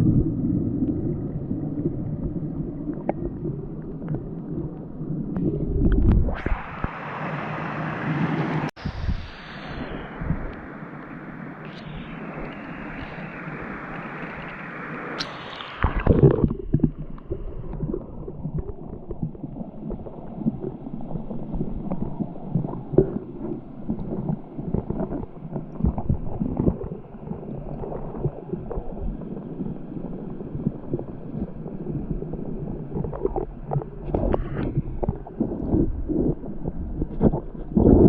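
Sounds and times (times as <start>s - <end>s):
bubbles gurgling: 0.0s - 7.0s, 9.8s - 38.0s
churning water underwater: 0.0s - 38.0s
muffled underwater rumble: 0.0s - 38.0s.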